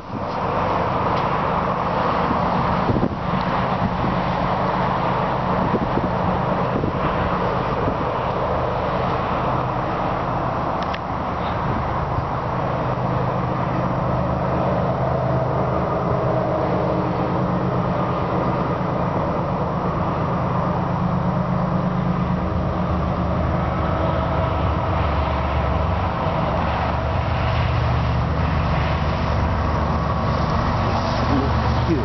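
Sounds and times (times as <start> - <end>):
diesel locomotive engines droning: 0.0 - 32.0.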